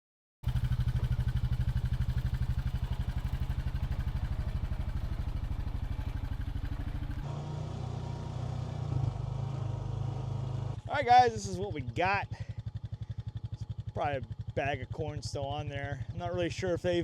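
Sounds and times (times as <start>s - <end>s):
utility vehicle engine running: 0.4s - 17.0s.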